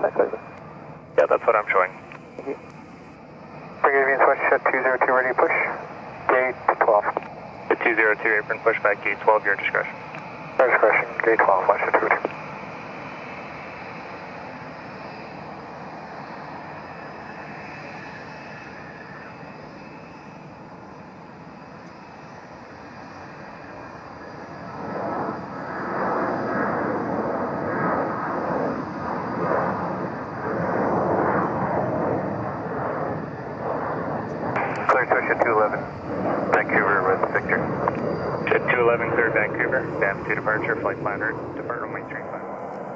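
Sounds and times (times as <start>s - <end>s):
jet airliner engines roaring: 0.0s - 42.9s.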